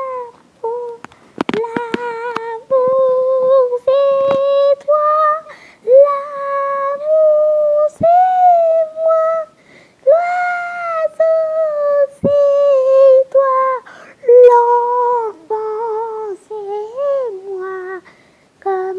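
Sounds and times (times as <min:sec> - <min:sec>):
high voice singing slow tune: 0:00.0 - 0:18.9.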